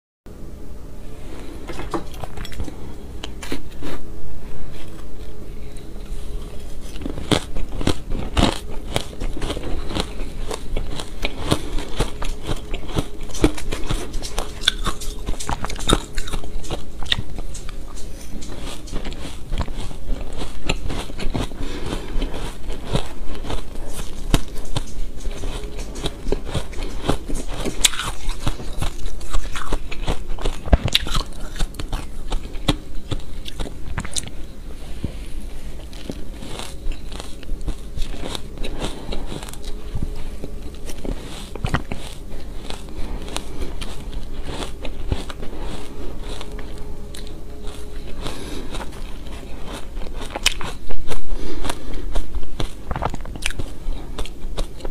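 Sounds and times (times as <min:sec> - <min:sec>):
crunchy chewing of shaved ice: 0:04.6 - 0:54.9.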